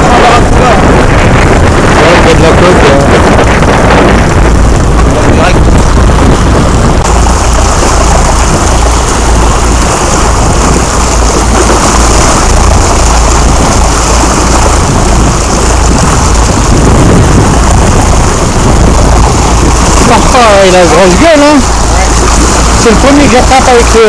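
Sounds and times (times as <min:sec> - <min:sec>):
boat engine running: 0:00.0 - 0:24.0
wake churning: 0:00.0 - 0:24.0
wind buffeting microphone: 0:00.0 - 0:24.0.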